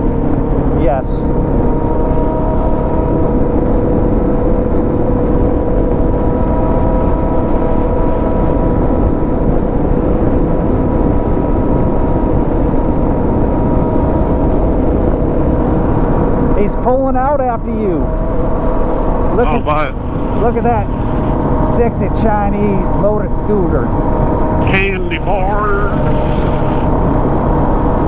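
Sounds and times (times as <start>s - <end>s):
wind rush on microphone: 0.0s - 28.0s.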